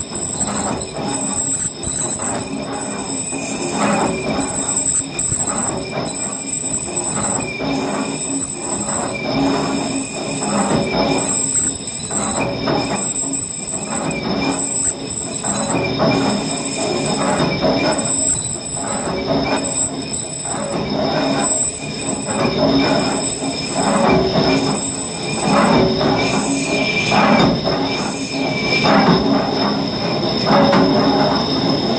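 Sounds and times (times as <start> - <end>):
lathe tool metallic squeal: 0.0 - 31.9
steel drum turning mechanical noise: 0.0 - 31.9.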